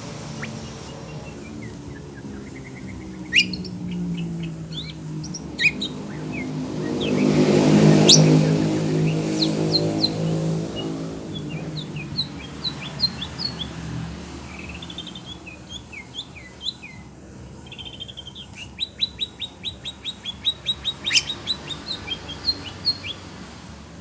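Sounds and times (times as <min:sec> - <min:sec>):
bird singing chirps and whistles: 0:00.0 - 0:23.5
vehicle low rumble: 0:00.0 - 0:24.0.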